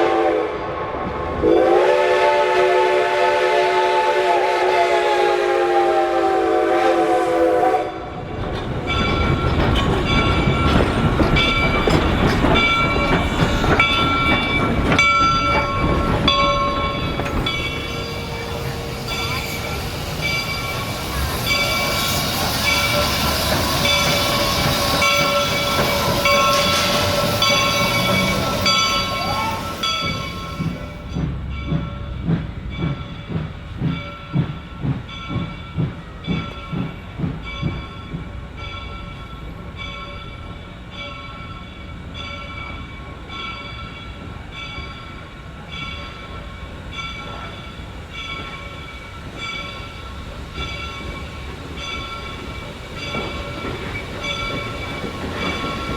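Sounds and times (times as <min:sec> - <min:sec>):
steam locomotive exhaust chuffs: 0:00.0 - 0:55.9
steam hissing: 0:01.4 - 0:40.7, 0:44.9 - 0:55.9.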